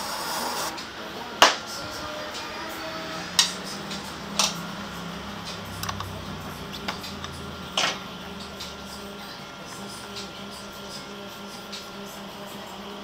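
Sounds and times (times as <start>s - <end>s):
steady low hum: 0.7s - 13.0s.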